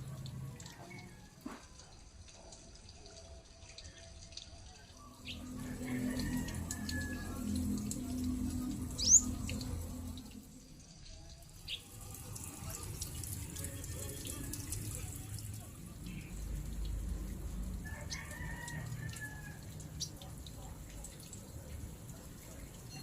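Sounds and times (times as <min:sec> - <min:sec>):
water running from tap: 0:00.0 - 0:23.0.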